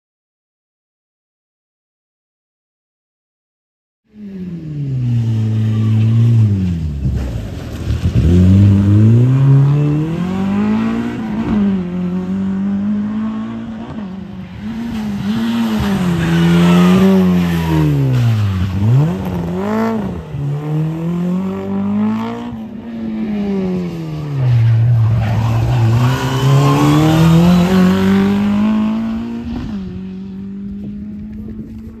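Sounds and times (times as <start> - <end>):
rally car engine revving hard: 4.4 - 24.0, 25.0 - 31.9.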